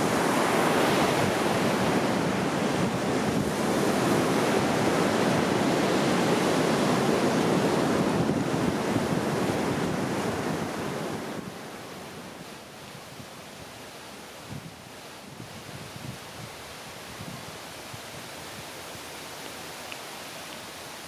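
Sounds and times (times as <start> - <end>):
ocean surf washing: 0.0 - 21.0.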